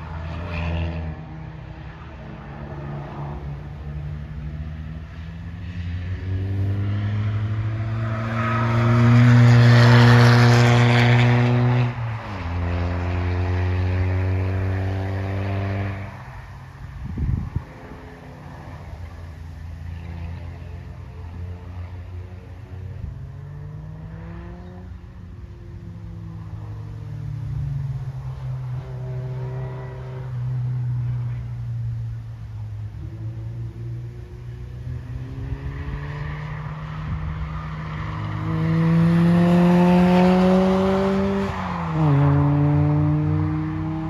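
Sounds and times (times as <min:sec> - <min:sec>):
race car engines accelerating: 0:00.0 - 0:44.0.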